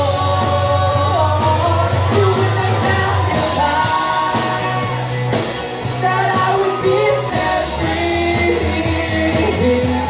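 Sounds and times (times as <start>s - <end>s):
person singing melody: 0.0s - 10.0s
worship band playing: 0.0s - 10.0s.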